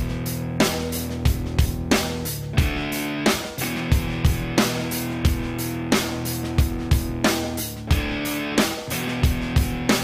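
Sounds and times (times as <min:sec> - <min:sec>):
steady drum beat: 0:00.0 - 0:10.0
strummed electric guitar: 0:00.0 - 0:10.0.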